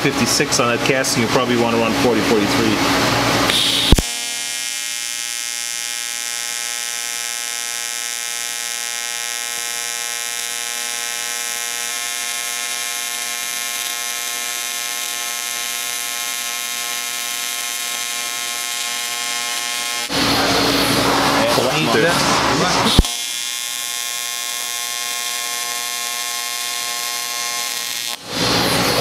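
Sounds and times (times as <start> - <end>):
welding arc buzzing: 1.2 - 29.0.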